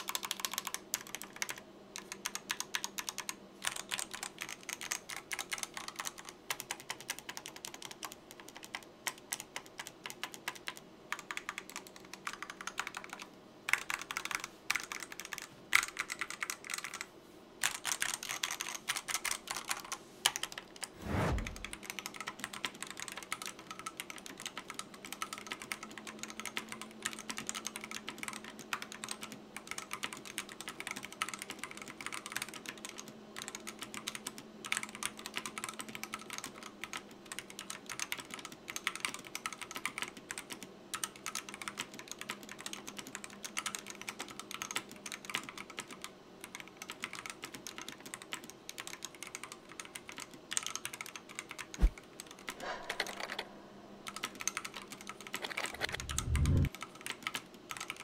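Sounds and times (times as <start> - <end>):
mechanical keyboard typing: 0.0 - 20.9, 21.5 - 58.0.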